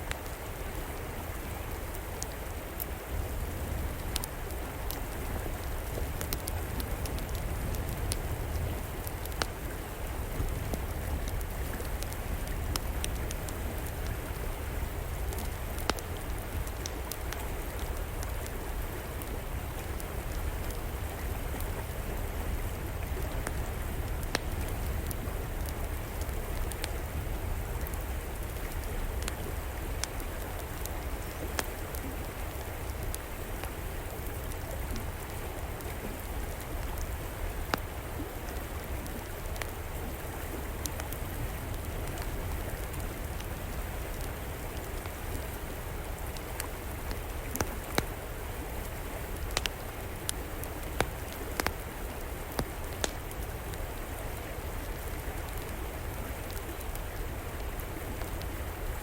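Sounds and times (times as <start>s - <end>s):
fire crackling and popping: 0.0s - 0.6s, 1.4s - 59.0s
river water flowing: 0.0s - 59.0s.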